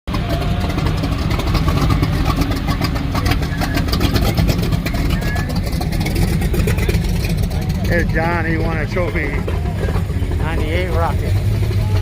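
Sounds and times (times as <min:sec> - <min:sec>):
car engine running: 0:00.1 - 0:12.0.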